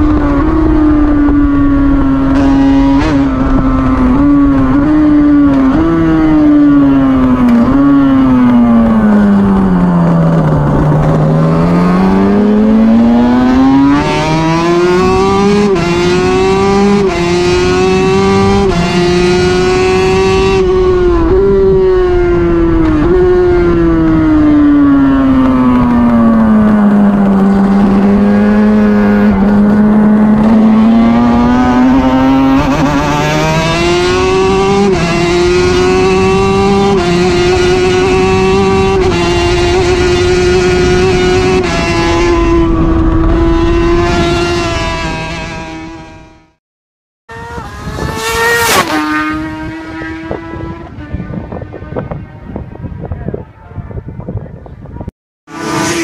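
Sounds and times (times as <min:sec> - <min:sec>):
racing engine revving with upshifts: 0:00.0 - 0:46.6, 0:47.3 - 0:52.7, 0:55.5 - 0:56.0.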